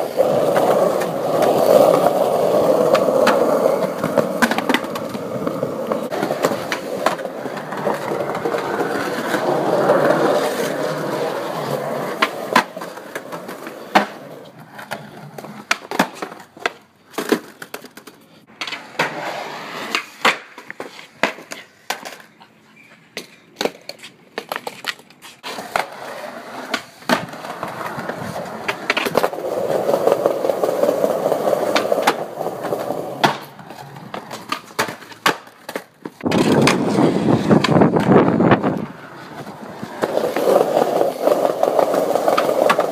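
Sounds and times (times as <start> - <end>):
skateboard clacks: 0.0 - 22.4, 23.1 - 42.9
skateboard wheels rolling on concrete: 0.0 - 42.9.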